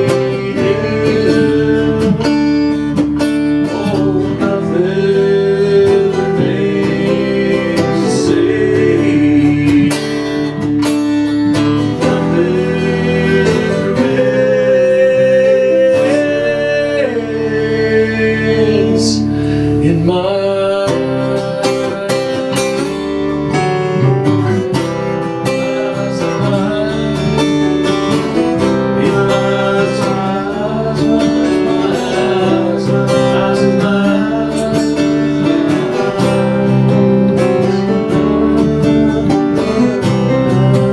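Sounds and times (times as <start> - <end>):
acoustic guitar country music: 0.0 - 40.9
held melody line: 0.0 - 40.9.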